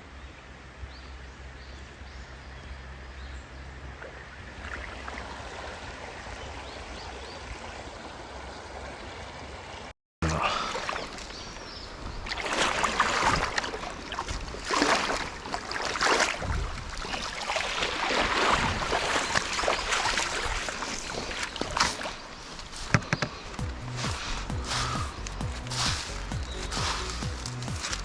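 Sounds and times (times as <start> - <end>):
water splashing in a stream: 3.8 - 28.0.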